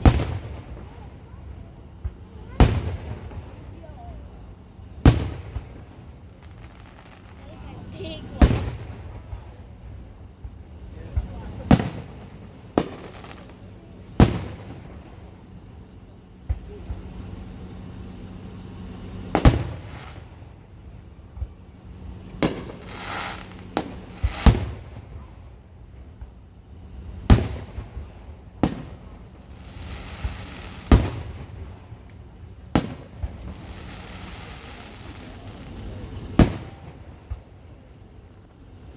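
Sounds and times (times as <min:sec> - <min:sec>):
fireworks bangs: 0:00.0 - 0:38.0
hissing crackle: 0:00.0 - 0:38.9.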